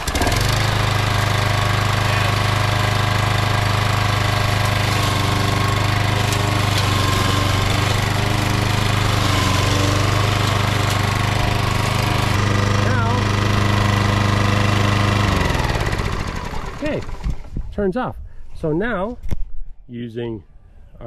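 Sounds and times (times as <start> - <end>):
lawn mower engine running: 0.0 - 17.7.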